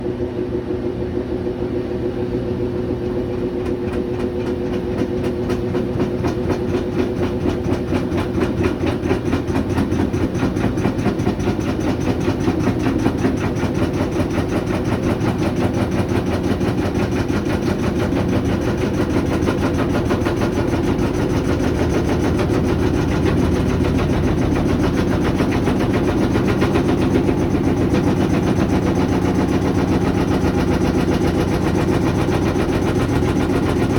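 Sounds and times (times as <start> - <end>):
washer motor hum: 0.0 - 33.9
washer drum banging: 3.5 - 33.9.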